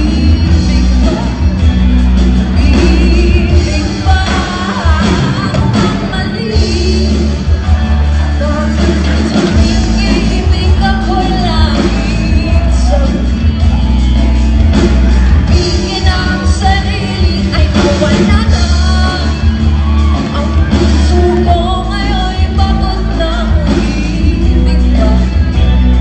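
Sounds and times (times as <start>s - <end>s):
live rock band playing: 0.0s - 26.0s
woman singing: 0.0s - 26.0s.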